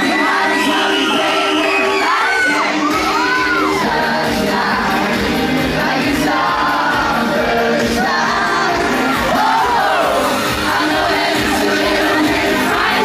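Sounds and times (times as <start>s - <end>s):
audience shouting and singing along: 0.0s - 13.0s
live pop music: 0.0s - 13.0s.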